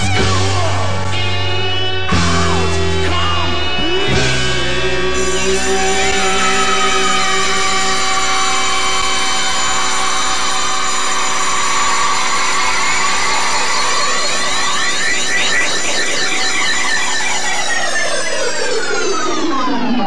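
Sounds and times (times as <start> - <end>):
electronic synthesizer drone: 0.0 - 20.0.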